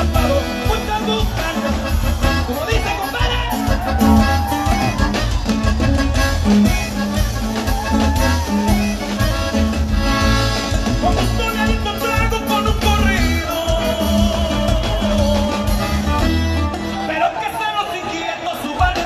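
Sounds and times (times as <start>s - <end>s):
accordion-led band over pa system: 0.0s - 19.0s.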